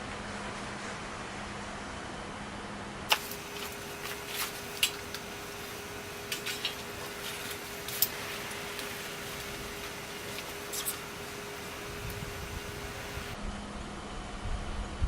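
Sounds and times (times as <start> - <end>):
faint steady hum: 0.0 - 14.6.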